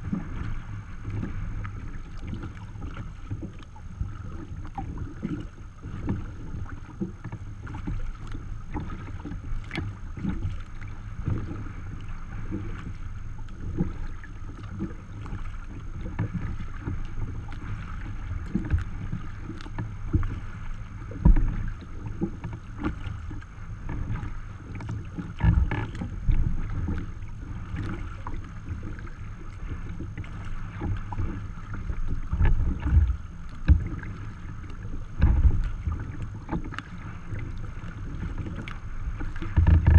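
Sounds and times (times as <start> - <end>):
water slapping against kayak hull: 0.0 - 39.9
wind rumbling on microphone: 0.0 - 39.9.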